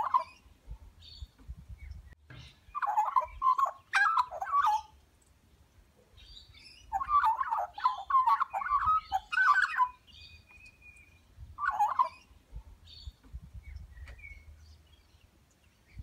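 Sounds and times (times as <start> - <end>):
birds chattering and warbling: 0.0 - 16.0.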